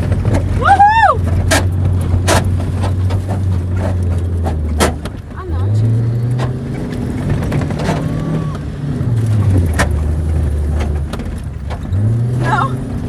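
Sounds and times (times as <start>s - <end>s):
car engine running hard: 0.0s - 13.0s
knocks from bumpy road: 0.0s - 13.0s.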